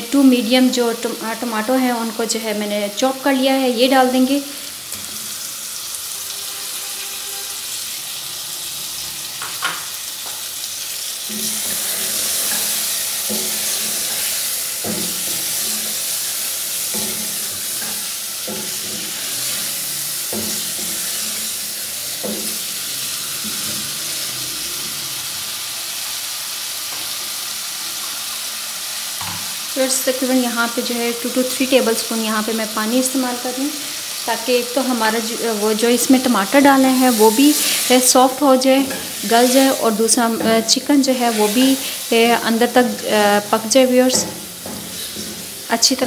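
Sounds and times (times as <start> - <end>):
food sizzling in a saucepan: 0.0 - 46.0.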